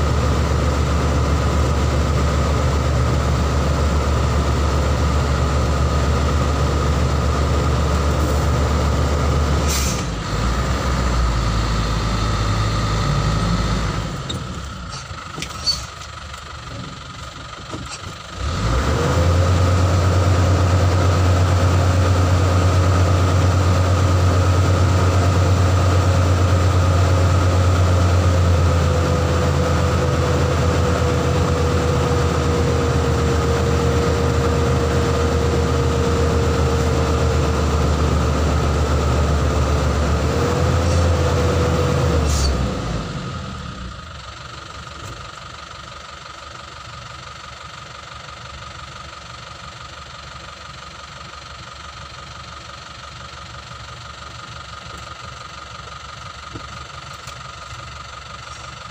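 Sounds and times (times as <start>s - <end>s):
vehicle engine idling: 0.0s - 58.9s.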